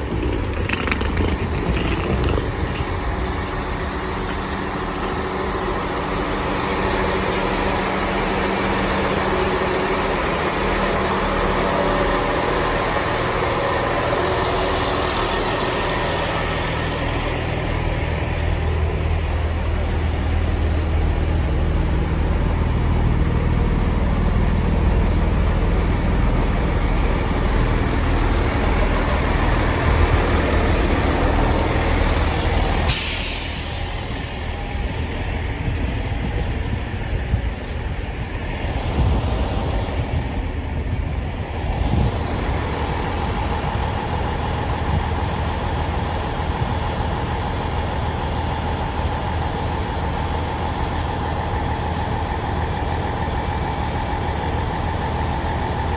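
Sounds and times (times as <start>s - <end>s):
train diesel engines running: 0.0s - 55.9s.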